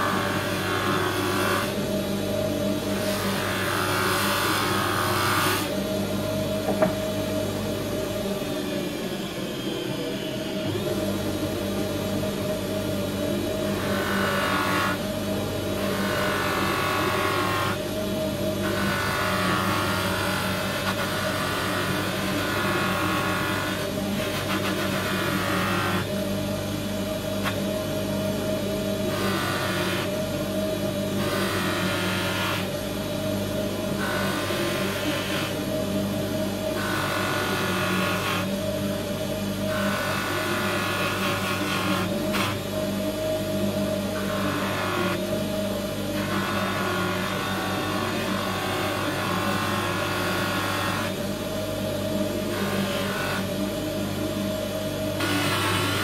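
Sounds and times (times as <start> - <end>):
bench grinder motor humming: 0.0 - 9.1, 10.5 - 56.0.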